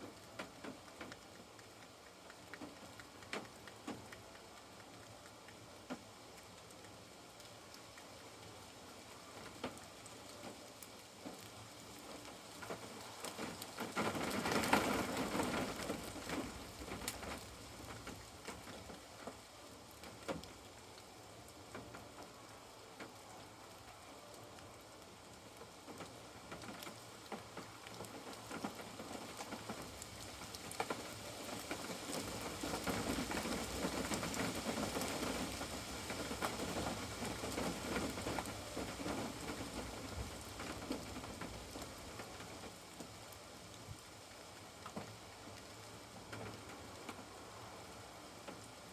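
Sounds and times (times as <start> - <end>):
rain on a caravan roof: 0.0 - 48.9
raindrop ticks: 0.0 - 48.9.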